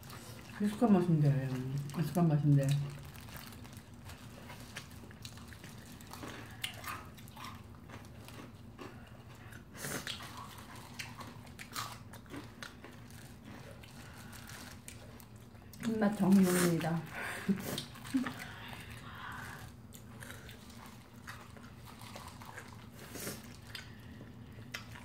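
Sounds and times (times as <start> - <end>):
faint low hum: 0.0 - 25.0
chewing and biting: 2.6 - 25.0.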